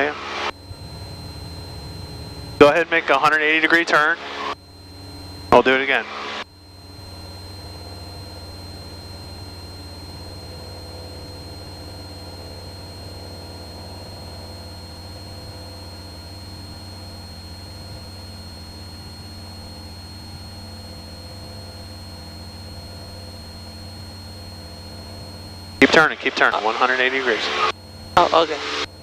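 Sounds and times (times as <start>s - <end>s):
faint high whine: 0.0s - 29.0s
plane engine droning in cockpit: 0.0s - 29.0s.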